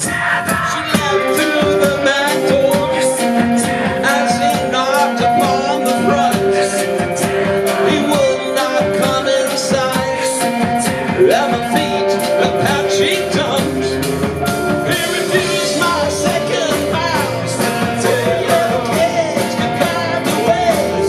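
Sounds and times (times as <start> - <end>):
live band playing: 0.0 - 21.0
person singing: 0.0 - 21.0.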